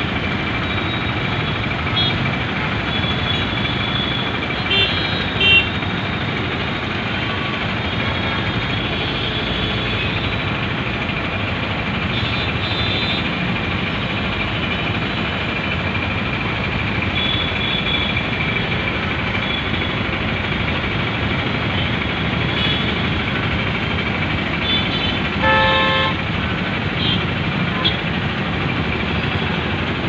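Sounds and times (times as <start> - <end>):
bus passing: 0.0 - 30.0
busy road traffic: 0.0 - 30.0.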